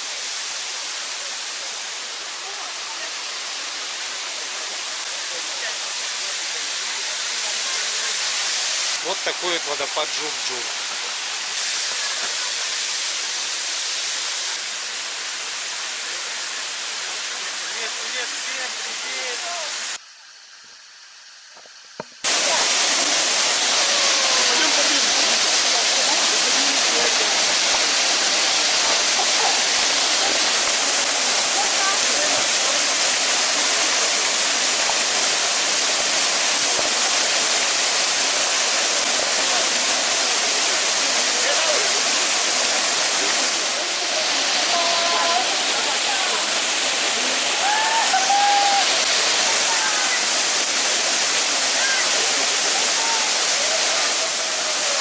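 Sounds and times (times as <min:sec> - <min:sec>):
waterfall pouring: 0:00.0 - 0:20.1, 0:21.2 - 0:55.0.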